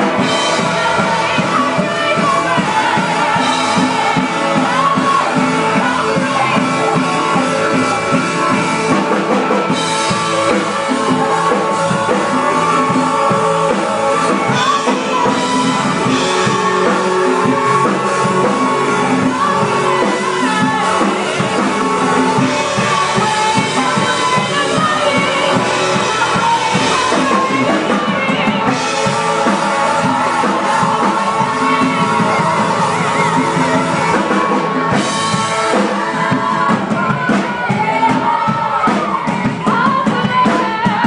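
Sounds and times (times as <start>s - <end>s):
voices singing: 0.0s - 41.0s
worship band playing: 0.0s - 41.0s.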